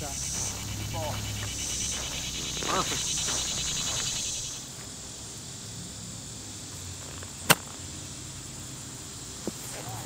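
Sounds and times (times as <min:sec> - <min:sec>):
faint outdoor background: 0:00.0 - 0:10.0.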